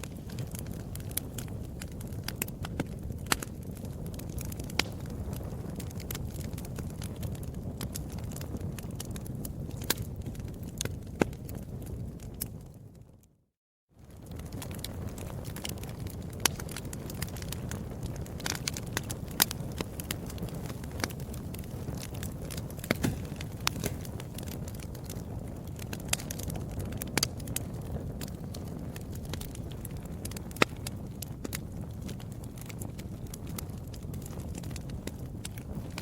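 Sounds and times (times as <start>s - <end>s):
fire crackling and popping: 0.0s - 13.4s, 14.0s - 36.0s
low rumble of burning: 0.0s - 36.0s.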